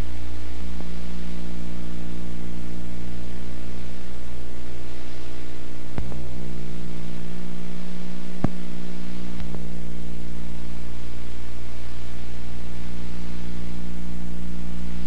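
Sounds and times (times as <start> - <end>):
electrical mains hum: 0.0 - 15.0
tape hiss: 0.0 - 15.0.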